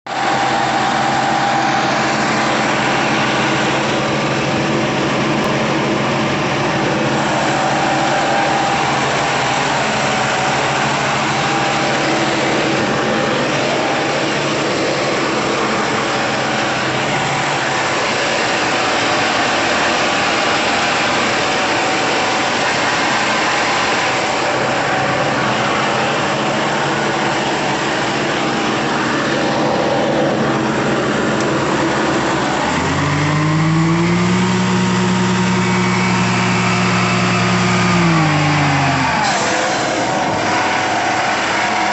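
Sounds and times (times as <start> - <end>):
air compressor running: 0.1 - 41.9
steady whine: 0.1 - 41.9.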